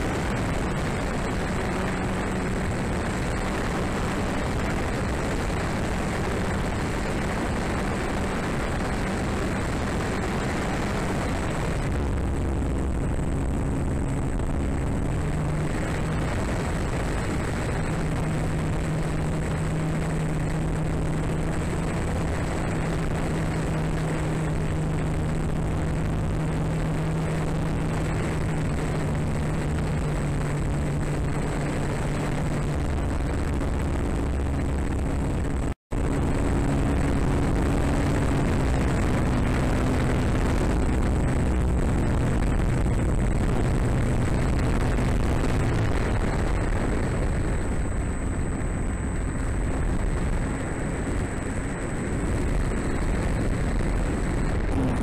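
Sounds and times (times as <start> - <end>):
thin high whine: 0.0 - 55.0
wind rushing on microphone: 0.0 - 55.0.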